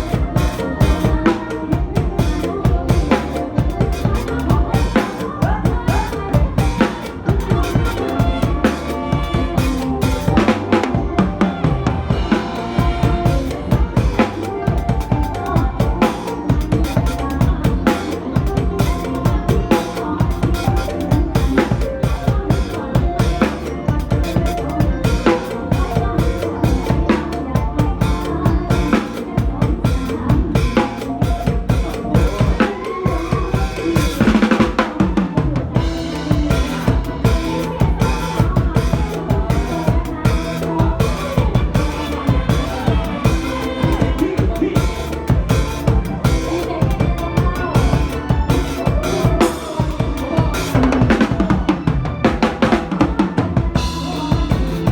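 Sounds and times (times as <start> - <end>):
band music: 0.0 - 54.9
drum kit playing fast rhythm: 0.0 - 54.9.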